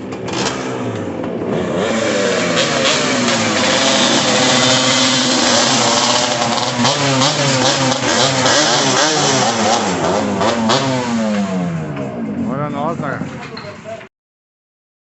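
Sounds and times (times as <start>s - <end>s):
two-stroke motorcycle engines revving: 0.0s - 14.1s.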